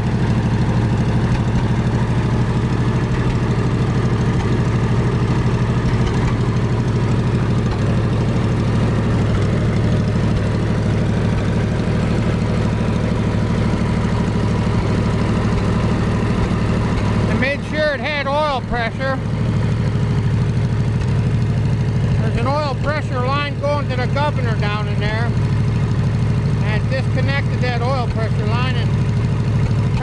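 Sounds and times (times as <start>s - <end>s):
welder engine running steadily: 0.0s - 30.0s.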